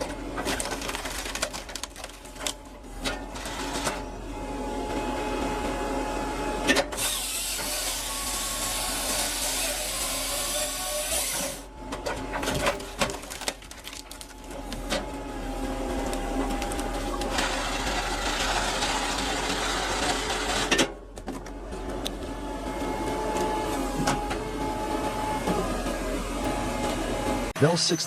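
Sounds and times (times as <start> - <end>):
wood-processing machinery humming: 0.0 - 28.0.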